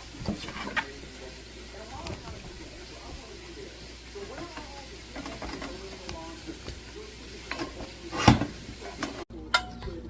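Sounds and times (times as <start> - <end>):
steady hiss: 0.0 - 9.2
utensil stirring in pan: 0.0 - 9.3.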